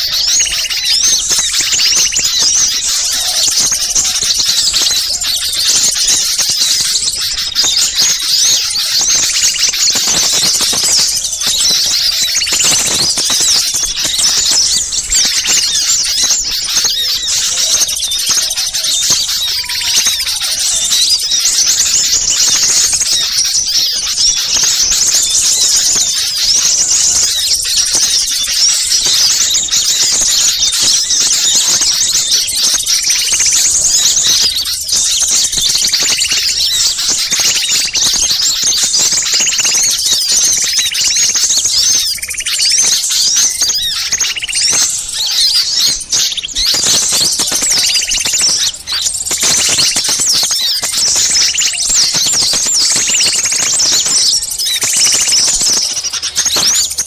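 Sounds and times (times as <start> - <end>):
small birds chirping and trilling: 0.0 - 57.0.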